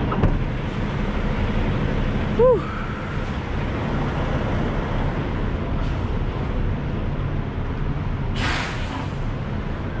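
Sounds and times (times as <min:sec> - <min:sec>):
truck diesel engine running: 0:00.0 - 0:08.4.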